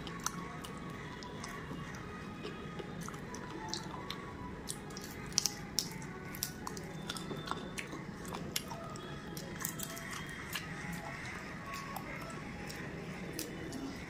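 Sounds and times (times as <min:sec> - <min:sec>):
person chewing with crunches: 0:00.0 - 0:14.0.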